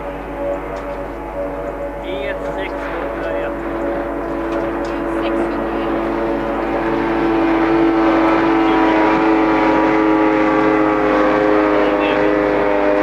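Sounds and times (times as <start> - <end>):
outboard motor high drone: 0.0 - 13.0.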